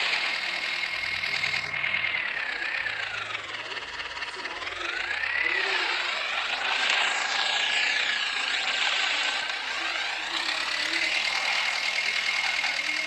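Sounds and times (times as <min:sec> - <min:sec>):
high engine whine: 0:00.0 - 0:13.0
tractor engine running: 0:00.0 - 0:13.0.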